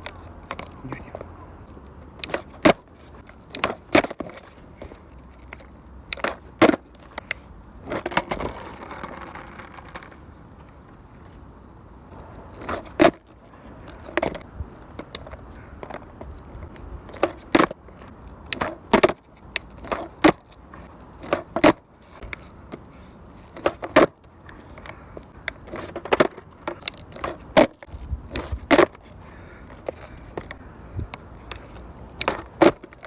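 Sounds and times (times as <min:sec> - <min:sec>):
skateboard clacking on pavement: 0:00.0 - 0:11.3, 0:12.1 - 0:33.0.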